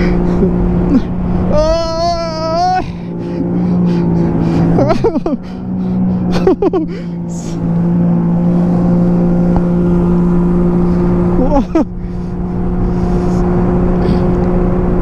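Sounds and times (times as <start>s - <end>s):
jet ski engine running: 0.0s - 15.0s.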